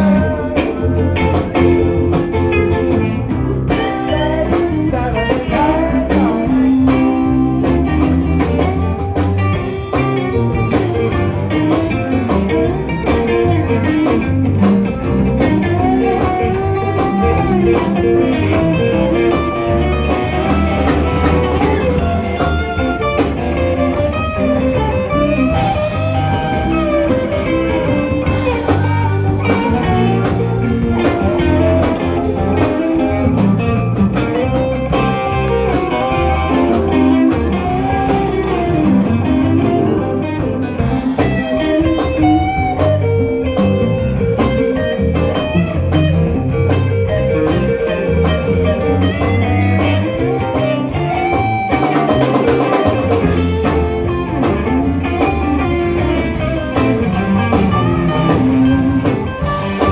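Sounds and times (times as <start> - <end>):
bass guitar: 0.0 - 59.9
drum kit: 0.0 - 59.9
electric guitar bending notes: 0.0 - 59.9.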